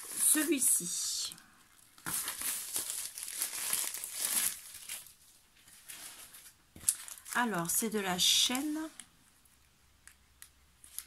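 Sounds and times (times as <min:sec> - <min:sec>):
plastic packaging crinkling: 0:00.0 - 0:09.0, 0:10.8 - 0:11.0.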